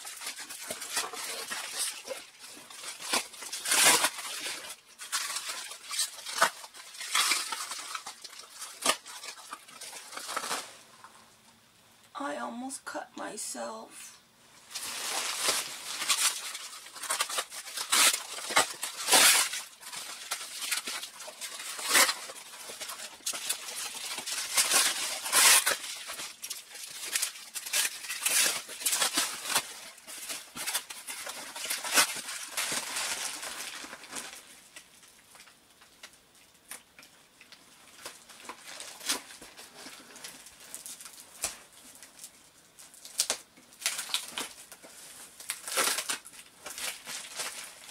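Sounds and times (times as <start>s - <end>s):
packaging being torn open: 0.0s - 10.8s, 14.7s - 47.9s.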